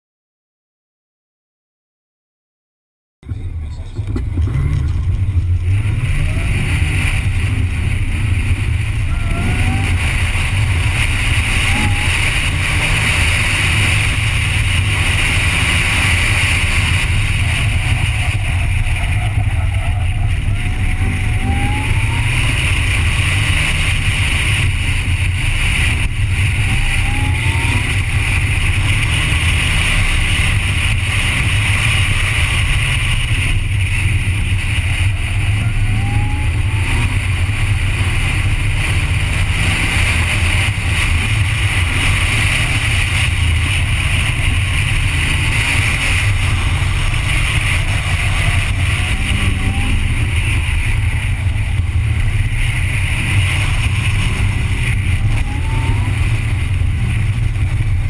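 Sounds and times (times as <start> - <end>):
car engine rumbling and revving: 3.2 - 58.0.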